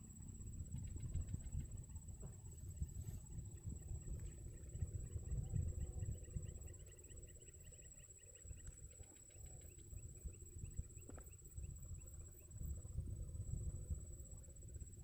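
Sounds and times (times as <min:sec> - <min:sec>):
high insect whine: 0:00.0 - 0:15.0
wind rumble on microphone: 0:00.0 - 0:15.0.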